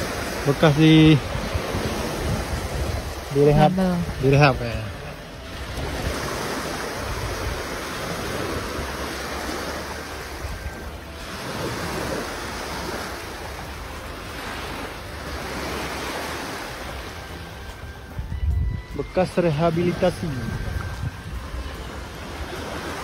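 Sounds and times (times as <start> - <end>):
wind buffeting microphone: 0.0 - 14.2, 15.0 - 19.2, 19.9 - 23.0
small waves washing on sand: 0.0 - 18.3, 19.0 - 23.0.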